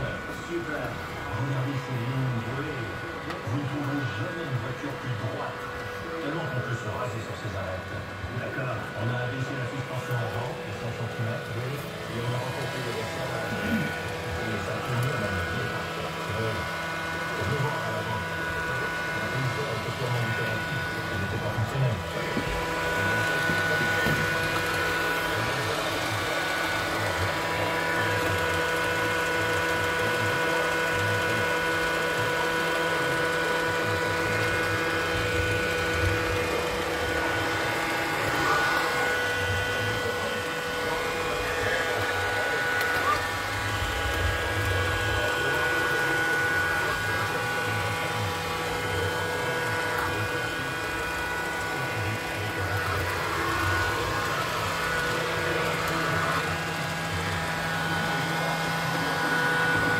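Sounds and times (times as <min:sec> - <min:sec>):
robot vacuum cleaner running: 0:00.0 - 0:59.9.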